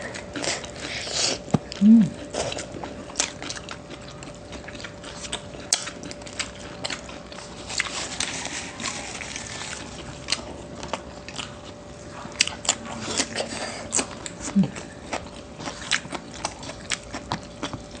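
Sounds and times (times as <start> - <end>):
chewing and biting food: 0.0 - 18.0.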